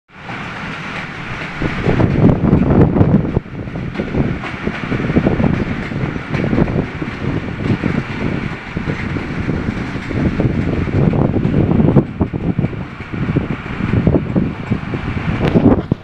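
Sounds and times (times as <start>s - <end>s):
train wheels rumbling on rails: 0.1s - 16.0s
wind noise: 0.2s - 16.0s.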